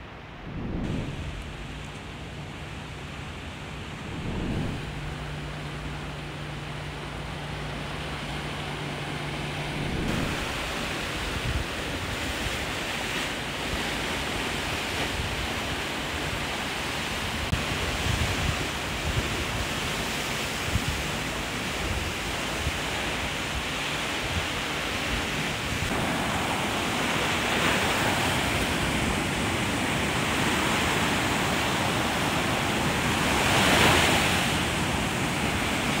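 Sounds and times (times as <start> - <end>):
waves breaking on shore: 0.0 - 36.0.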